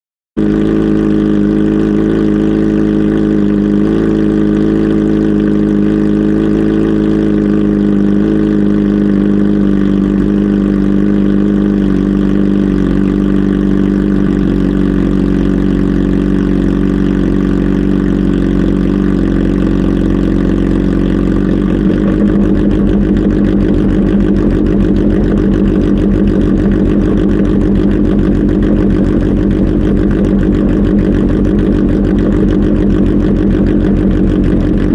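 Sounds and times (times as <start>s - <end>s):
motorcycle engine running: 0.4s - 34.9s.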